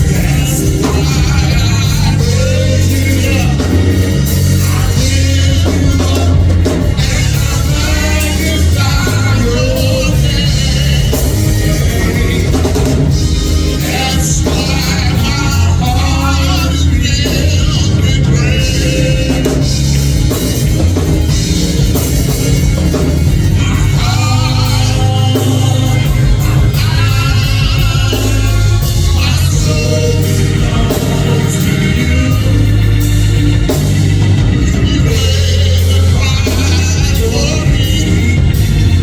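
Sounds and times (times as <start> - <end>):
band playing drums bass guitar: 0.0 - 39.0
voices singing: 0.0 - 39.0.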